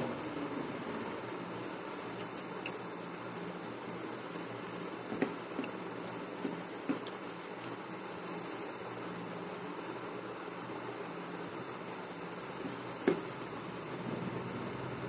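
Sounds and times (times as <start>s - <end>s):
fan-like hum: 0.0s - 15.0s.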